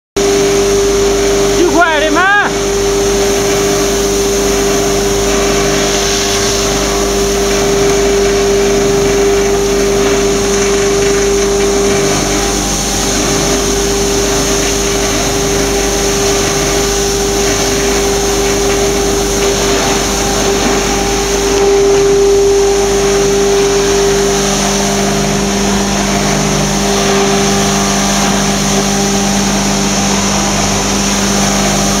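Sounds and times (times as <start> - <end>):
foam shredder motor hum: 0.2 - 32.0
shredder grinding foam: 0.2 - 32.0.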